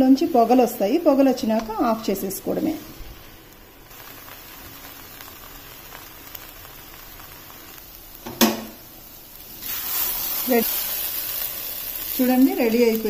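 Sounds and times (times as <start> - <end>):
soft steady sizzling: 0.0 - 13.0.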